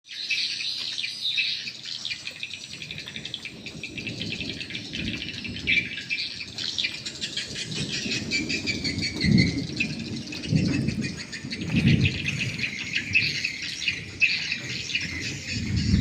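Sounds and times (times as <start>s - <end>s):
rough low rumble: 2.8s - 16.0s.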